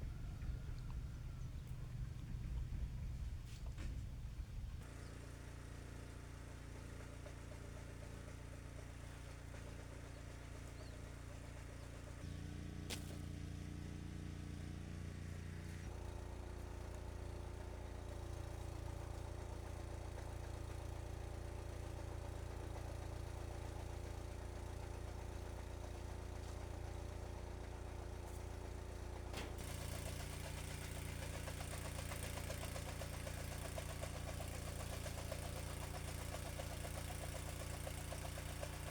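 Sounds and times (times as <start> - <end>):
chaff cutter engine chopping stalks: 4.8 - 38.9.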